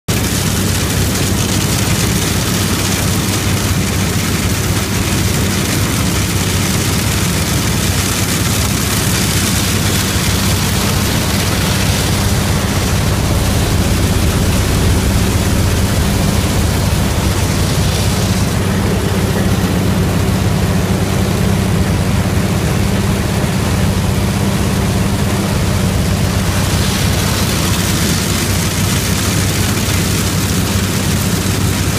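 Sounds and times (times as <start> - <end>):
combine engine hum: 0.0 - 31.9
loud hiss: 0.1 - 31.9.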